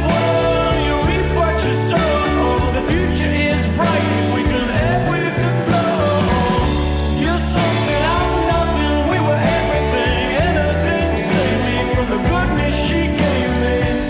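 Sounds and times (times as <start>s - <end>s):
rock song with singing: 0.0s - 14.0s.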